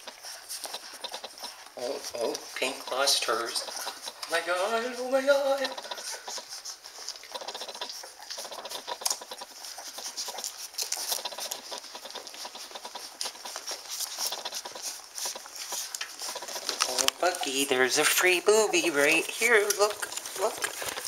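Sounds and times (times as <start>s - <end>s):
puppies suckling: 0.0s - 21.0s.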